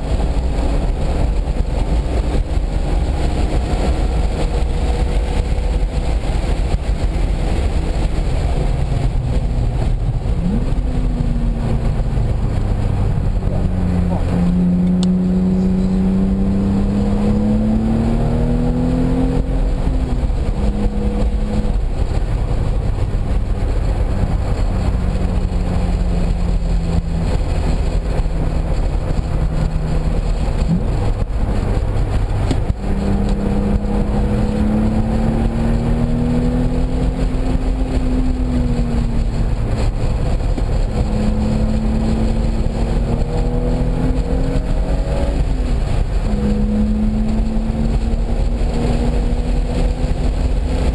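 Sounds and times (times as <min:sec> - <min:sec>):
car engine revving: 0:00.0 - 0:50.9
road and wind noise: 0:00.0 - 0:50.9.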